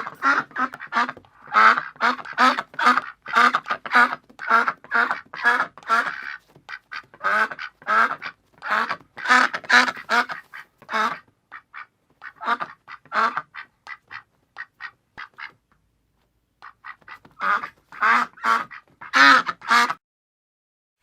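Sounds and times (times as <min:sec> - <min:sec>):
duck quacking: 0:00.0 - 0:15.6, 0:16.6 - 0:20.0.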